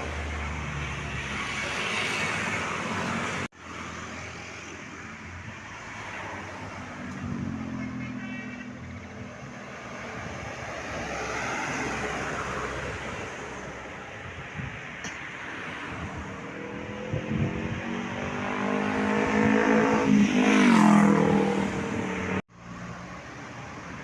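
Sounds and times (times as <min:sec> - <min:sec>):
vehicles passing on a road: 0:00.0 - 0:24.0.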